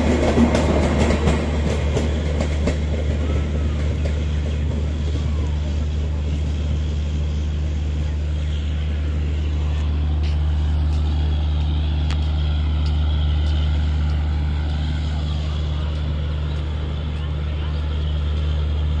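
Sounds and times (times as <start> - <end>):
diesel train engine idling: 0.0 - 19.0.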